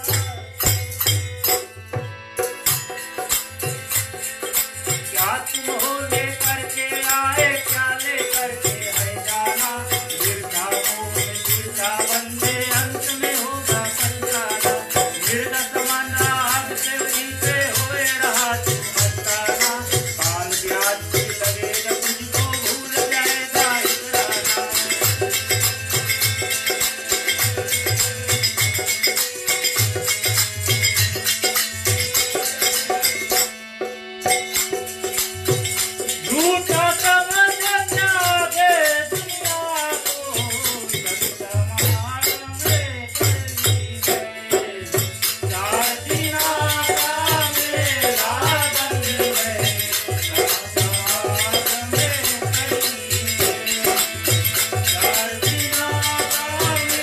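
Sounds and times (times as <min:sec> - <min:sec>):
harmonium: 0:00.0 - 0:57.0
jingling hand percussion: 0:00.0 - 0:57.0
man singing: 0:04.1 - 0:29.5, 0:36.0 - 0:57.0
hand drum beating: 0:06.1 - 0:33.5, 0:34.3 - 0:57.0.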